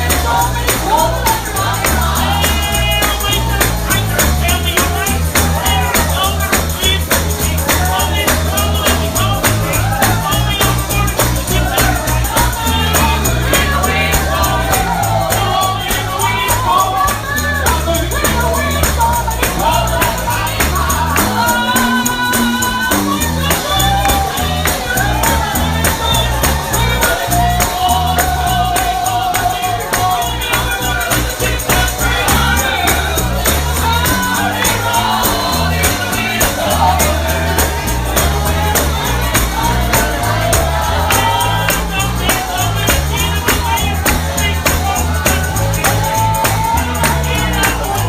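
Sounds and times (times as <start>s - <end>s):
band with pulsing bass: 0.0s - 48.0s
person singing with vibrato: 0.0s - 48.0s
tambourine shaking: 0.0s - 48.0s.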